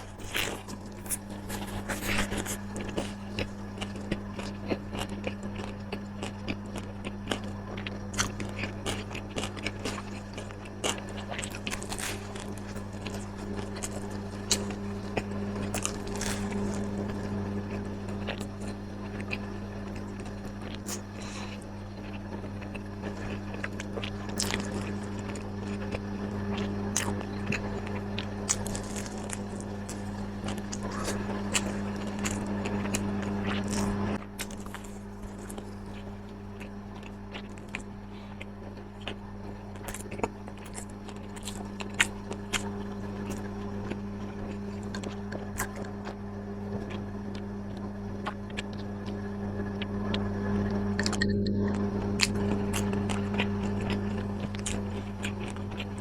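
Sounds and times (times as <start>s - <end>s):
person chewing crunchy food: 0.0s - 56.0s
steady low hum: 0.0s - 56.0s.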